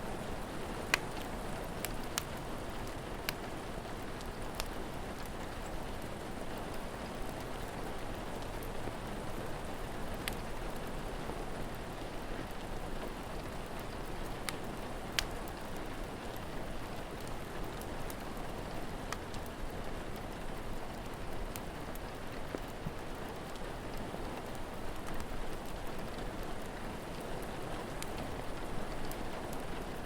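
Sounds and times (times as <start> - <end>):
steady rain falling: 0.0 - 30.0
wood fire crackles: 0.0 - 30.0.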